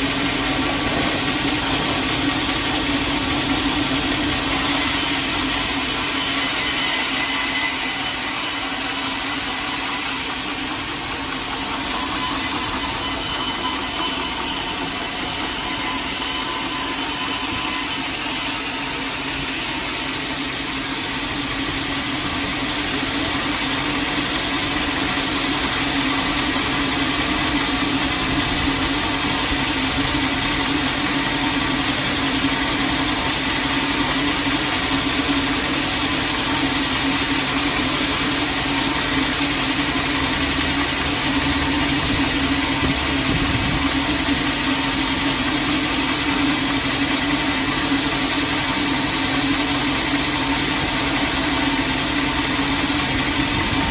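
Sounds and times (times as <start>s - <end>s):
steady machine hum: 0.0s - 6.0s, 7.7s - 53.9s
sawmill blade sawing log: 0.0s - 53.9s.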